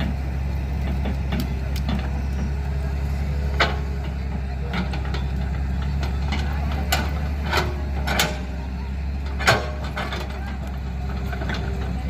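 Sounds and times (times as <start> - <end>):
heavy equipment engine idling: 0.0 - 12.0.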